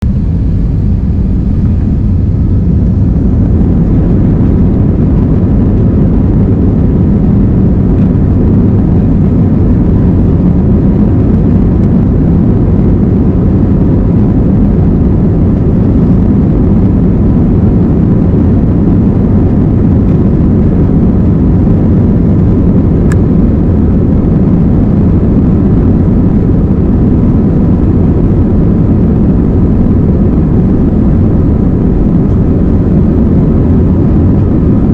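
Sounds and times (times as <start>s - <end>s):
faint steady whine: 0.0s - 34.9s
jet engines rumbling in cabin: 0.0s - 34.9s.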